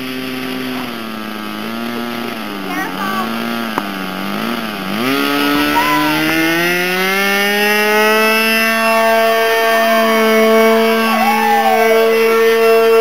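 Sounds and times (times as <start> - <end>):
model airplane engine at full throttle: 0.0 - 13.0.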